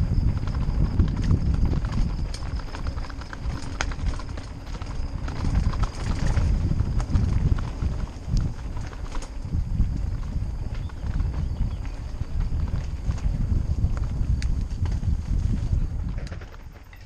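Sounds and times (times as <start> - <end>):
bike knocks and rattles: 0.3 - 17.0.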